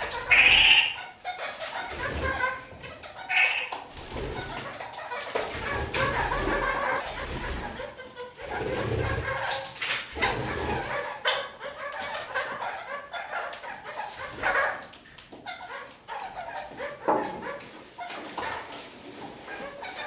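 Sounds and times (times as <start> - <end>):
parakeets chattering: 0.0 - 18.8, 19.4 - 20.0.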